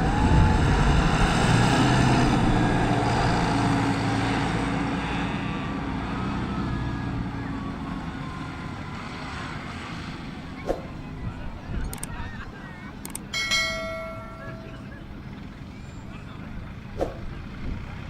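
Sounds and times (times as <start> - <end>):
tractor engine running: 0.1 - 18.0.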